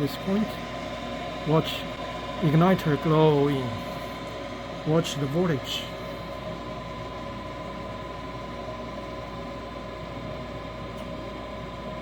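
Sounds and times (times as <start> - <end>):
fan motor humming with faint whine: 0.0 - 12.0.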